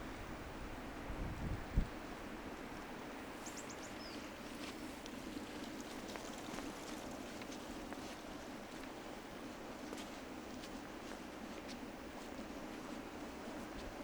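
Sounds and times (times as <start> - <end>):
wind or running water: 0.0 - 14.0.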